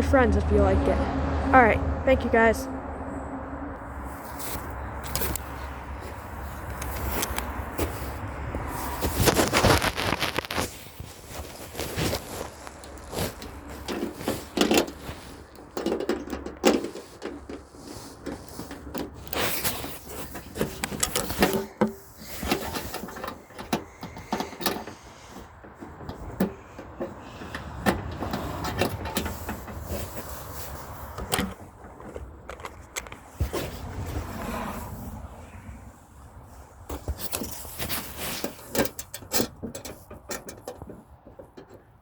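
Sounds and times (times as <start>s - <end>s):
handling clicks knocks and scrapes: 4.0s - 34.8s, 36.6s - 42.0s.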